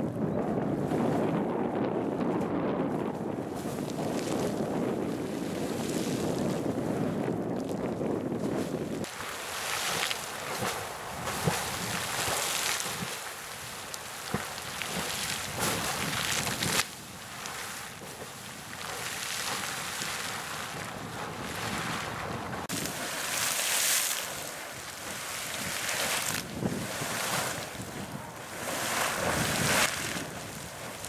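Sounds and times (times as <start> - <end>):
geyser water splashing: 3.5 - 31.0.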